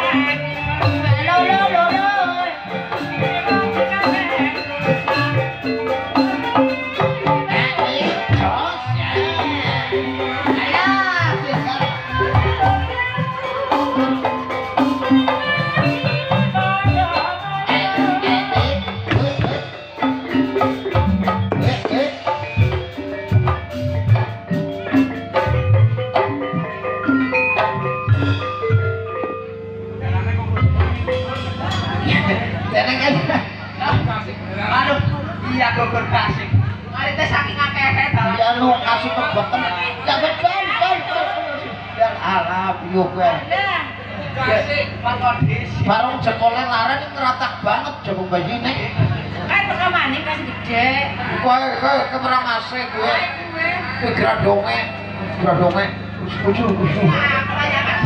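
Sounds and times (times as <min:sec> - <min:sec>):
drums: 0:00.0 - 0:41.2, 0:41.8 - 0:51.6
mallet-struck tuned percussion: 0:00.0 - 0:58.0.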